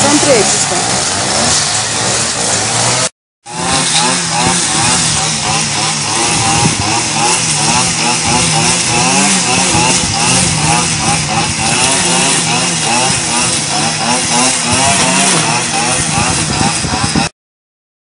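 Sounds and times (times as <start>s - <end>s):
brush cutter engine cutting grass: 0.0s - 17.3s.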